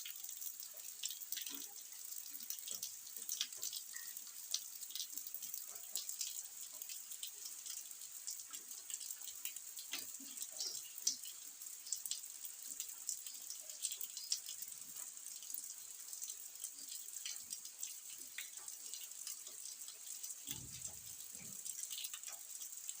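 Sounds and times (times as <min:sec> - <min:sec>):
rain falling: 0:00.0 - 0:23.0
raindrops ticking and splashing: 0:00.0 - 0:23.0.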